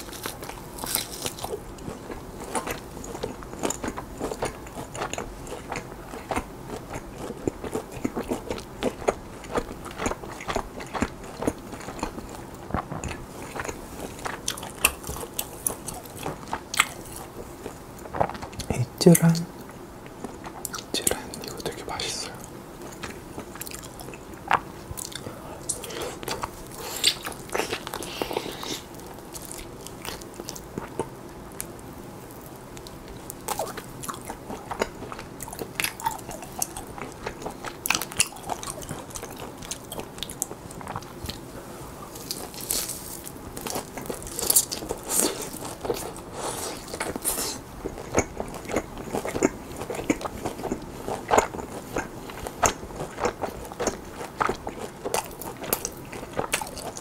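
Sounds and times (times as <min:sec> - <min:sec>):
biting and chewing meat: 0:00.0 - 0:18.7, 0:22.8 - 0:57.0.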